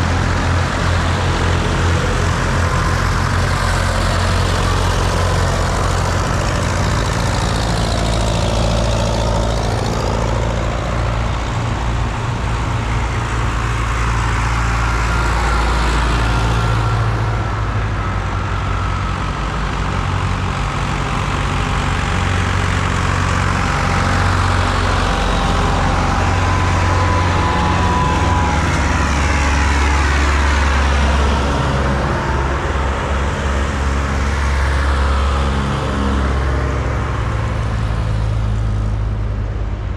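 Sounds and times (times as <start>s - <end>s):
tractor diesel engines droning: 0.0s - 39.9s.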